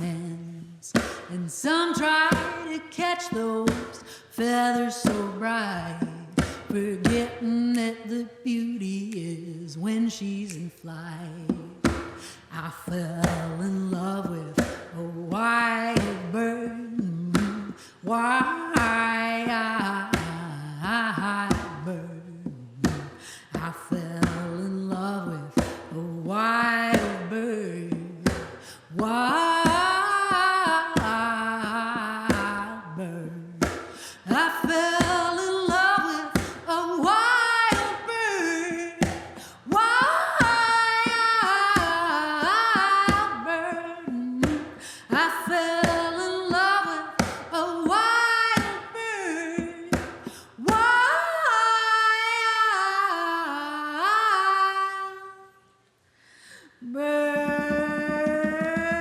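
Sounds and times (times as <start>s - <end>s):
woman singing wordless melody: 0.0s - 55.8s, 56.6s - 59.0s.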